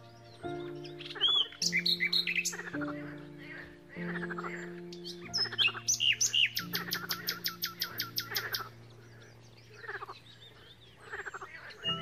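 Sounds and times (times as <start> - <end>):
soft instrumental music: 0.0 - 10.4, 11.6 - 12.0
songbird singing: 0.0 - 12.0.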